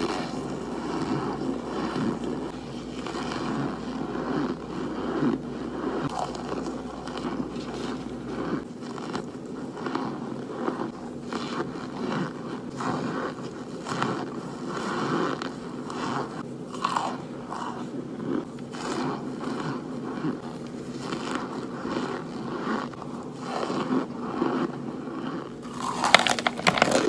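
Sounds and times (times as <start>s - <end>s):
crunchy biting and chewing: 0.0s - 27.0s.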